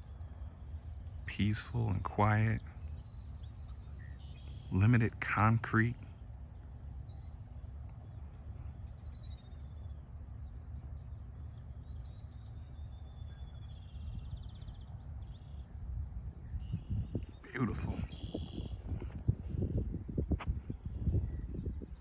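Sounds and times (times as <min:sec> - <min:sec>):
low outdoor rumble: 0:00.0 - 0:22.0
songbird singing: 0:00.0 - 0:22.0.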